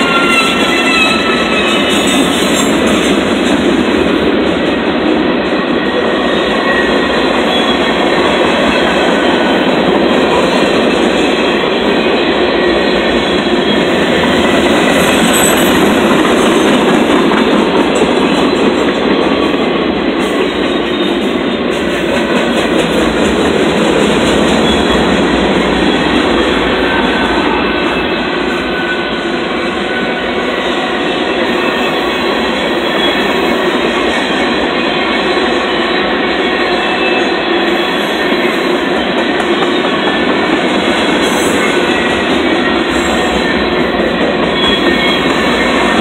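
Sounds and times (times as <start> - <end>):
steel wheels clattering on rails: 0.0 - 46.0.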